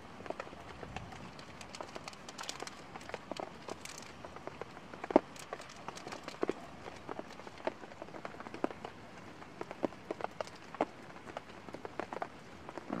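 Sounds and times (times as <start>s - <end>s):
raindrops pattering: 0.0s - 13.0s.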